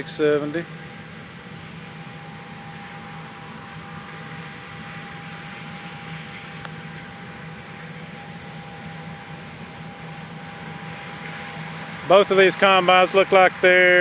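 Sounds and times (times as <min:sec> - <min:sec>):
combine harvester droning: 0:00.0 - 0:14.0.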